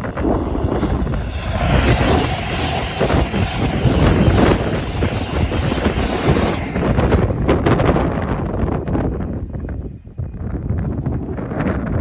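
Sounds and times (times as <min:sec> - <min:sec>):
train passing at speed: 0:00.0 - 0:11.8
wind buffeting microphone: 0:00.0 - 0:12.0.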